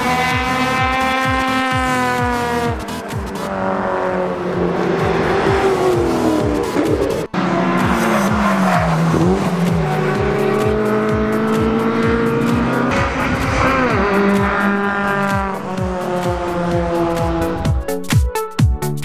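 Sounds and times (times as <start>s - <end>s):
race car engine at high revs: 0.0s - 17.8s
electronic dance music: 0.0s - 19.0s.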